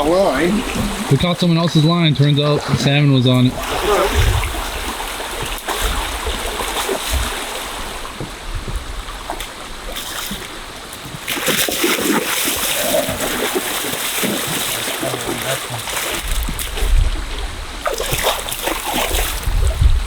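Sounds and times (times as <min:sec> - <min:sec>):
fish splashing in water: 0:00.0 - 0:20.0
running river water: 0:00.0 - 0:20.0.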